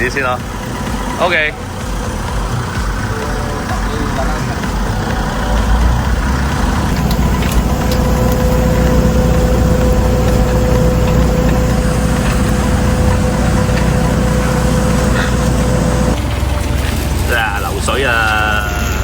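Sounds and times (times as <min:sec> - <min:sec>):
steady higher hum: 0:00.0 - 0:19.0
tow truck engine idling: 0:00.0 - 0:19.0.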